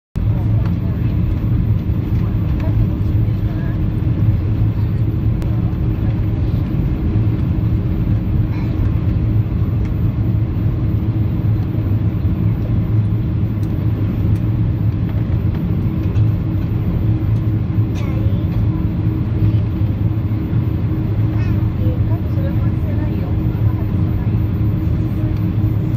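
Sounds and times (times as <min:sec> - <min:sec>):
airliner cabin rumble: 0:00.2 - 0:25.9
steady hum: 0:00.2 - 0:25.9.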